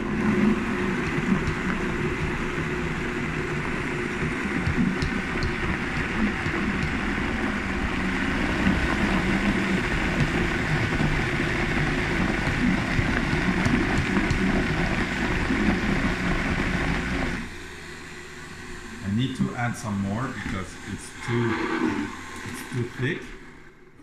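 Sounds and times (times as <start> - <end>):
blender motor running: 0.0 - 24.0.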